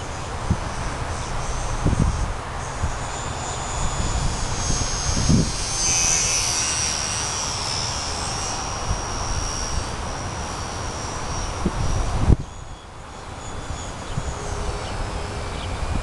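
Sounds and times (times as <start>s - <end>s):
wind buffeting microphone: 0.0s - 12.9s, 13.5s - 16.0s
electric motor and propeller whine: 0.0s - 16.0s.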